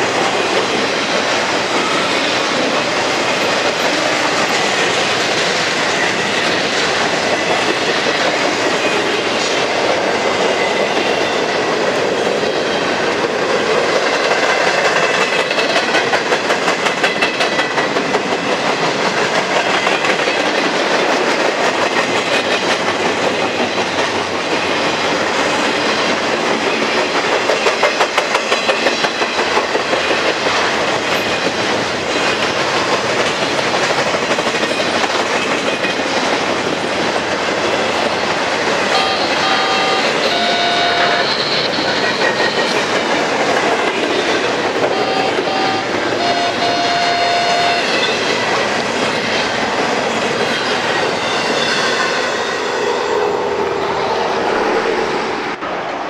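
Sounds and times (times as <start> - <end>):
clickety-clack over rail joints: 0.0 - 55.8
freight train wheels rumbling: 0.0 - 56.0.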